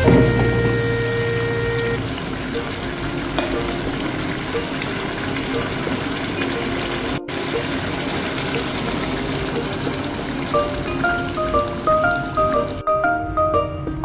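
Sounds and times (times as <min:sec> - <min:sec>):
sauce simmering in a pan: 0:00.8 - 0:12.8.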